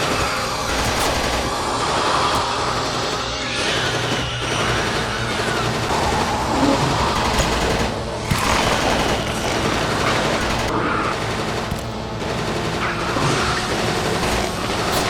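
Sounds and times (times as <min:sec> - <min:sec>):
automatic gunfire: 0:00.0 - 0:15.0.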